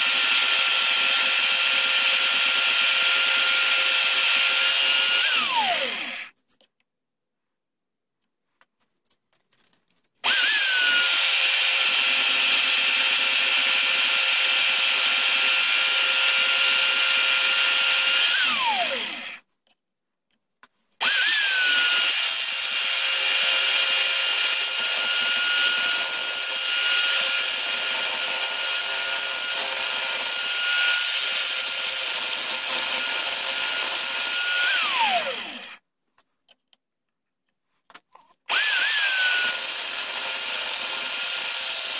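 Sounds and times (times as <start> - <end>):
electric drill motor whine: 0.0 - 6.3, 10.2 - 19.4, 21.0 - 35.8, 38.5 - 41.9.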